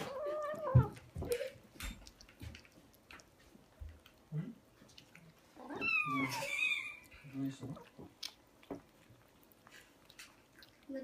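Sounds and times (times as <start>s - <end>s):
kittens chewing wet food: 0.0s - 11.0s.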